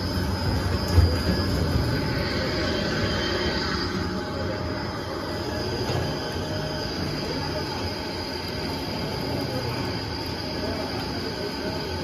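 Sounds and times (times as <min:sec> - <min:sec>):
wood shredding machinery: 0:00.0 - 0:11.5
belt conveyor running: 0:00.0 - 0:12.0
thin high whine: 0:00.0 - 0:12.0.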